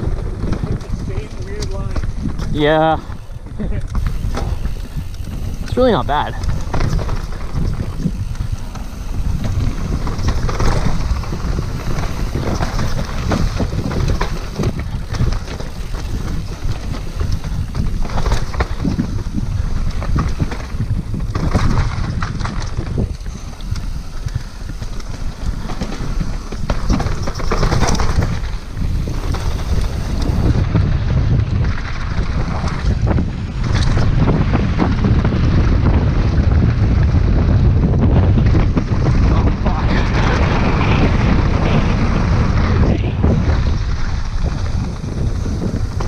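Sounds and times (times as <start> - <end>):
bike knocks and clatter: 0.0 - 46.0
wind buffeting microphone: 0.0 - 46.0.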